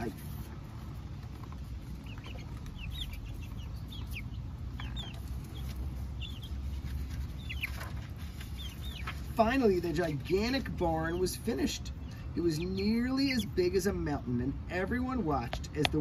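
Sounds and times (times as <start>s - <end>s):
hens peeping: 0.0s - 16.0s.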